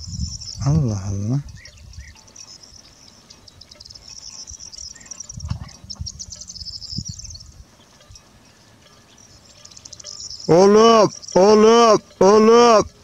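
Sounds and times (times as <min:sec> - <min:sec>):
insects chirping trill: 0:00.0 - 0:13.0.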